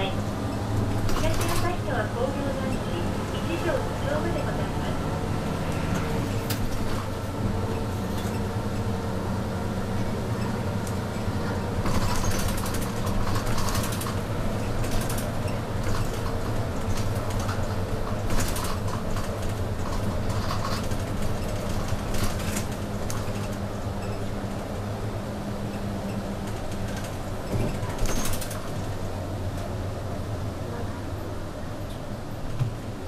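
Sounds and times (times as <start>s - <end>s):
bus engine and road hum: 0.0s - 33.0s
bus fittings rattling: 0.3s - 4.5s, 5.7s - 29.9s.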